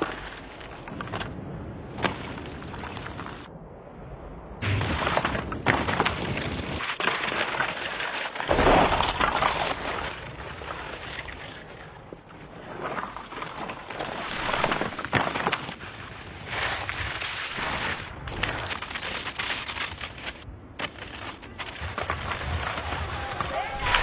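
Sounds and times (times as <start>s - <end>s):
skis scraping through sand: 4.6s - 24.0s.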